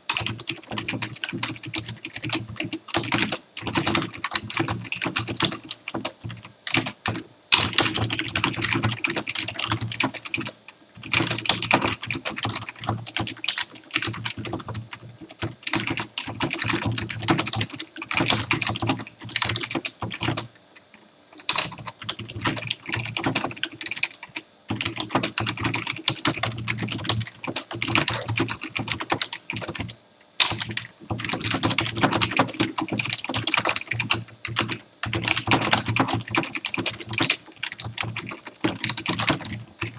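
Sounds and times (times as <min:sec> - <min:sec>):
typing on computer keyboard: 0:00.1 - 0:20.5, 0:21.5 - 0:39.9.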